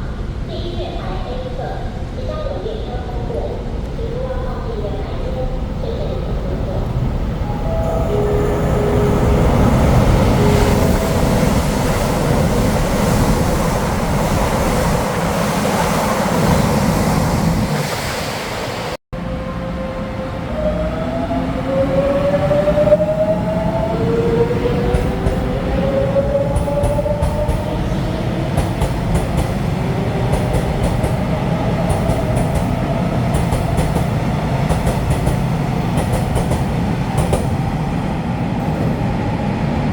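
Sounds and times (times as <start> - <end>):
train running with steady rumble: 0.0 - 39.9.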